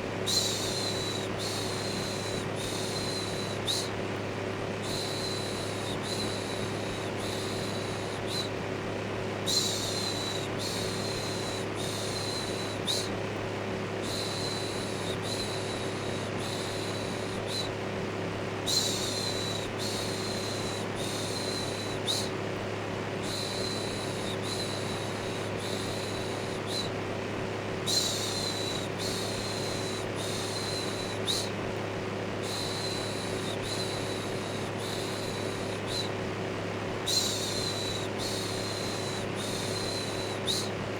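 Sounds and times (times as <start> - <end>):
electric fan humming: 0.0 - 40.9.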